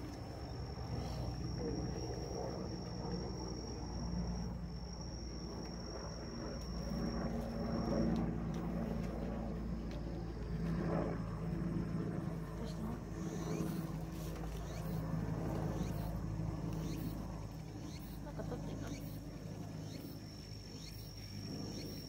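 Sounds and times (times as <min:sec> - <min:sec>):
low outdoor rumble: 0:00.0 - 0:21.8.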